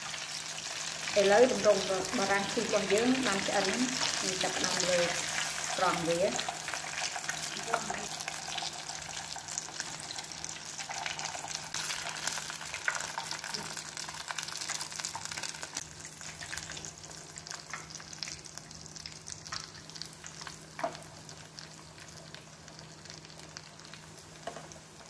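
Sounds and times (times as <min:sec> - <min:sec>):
oil sizzling and crackling: 0:00.0 - 0:25.0.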